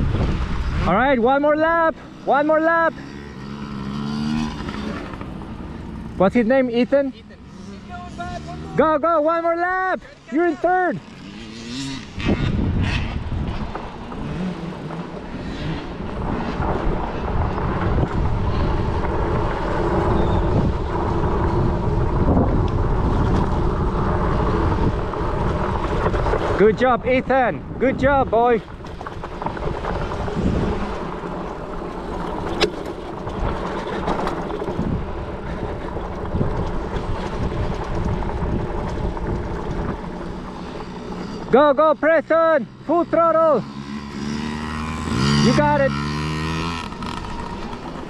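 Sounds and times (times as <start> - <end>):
dirt bike engines running: 0.0 - 48.0.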